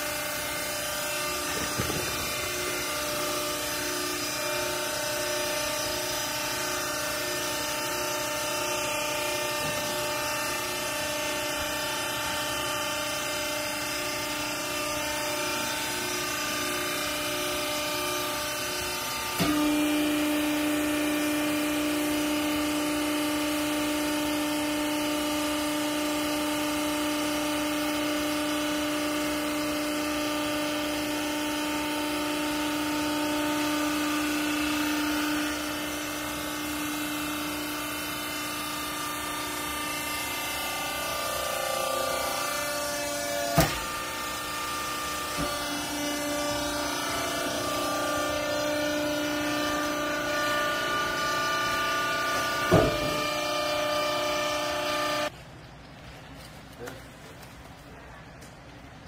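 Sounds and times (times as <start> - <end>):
hydraulic pump humming: 0.0 - 55.4.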